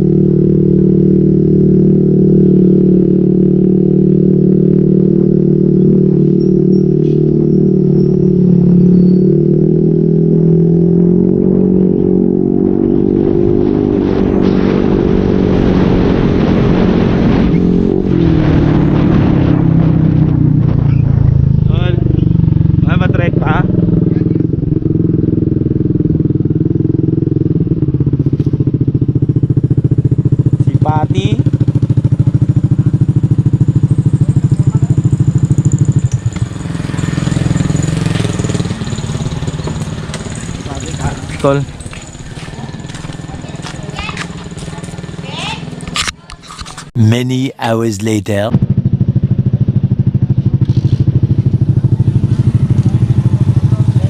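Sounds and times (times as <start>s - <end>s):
motorcycle engine running: 0.0s - 46.9s, 48.6s - 54.0s.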